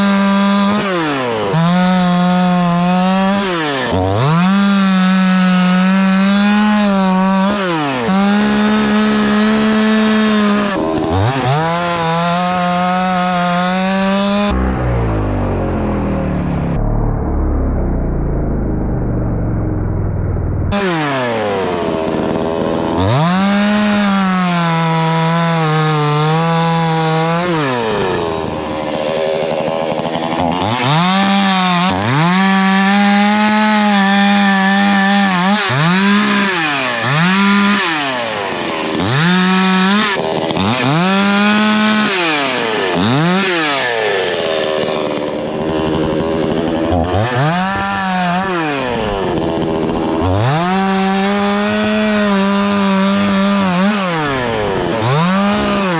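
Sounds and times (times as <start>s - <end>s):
chainsaw revving and cutting wood: 0.0s - 16.8s, 20.7s - 55.9s.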